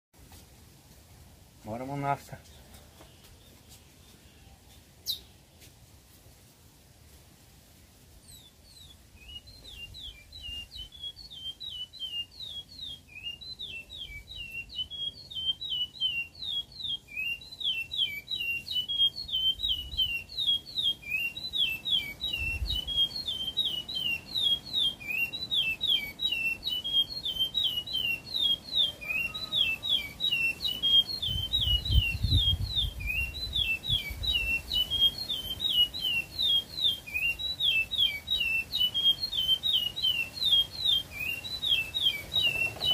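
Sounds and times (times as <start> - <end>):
songbird chirping: 1.6 - 42.9.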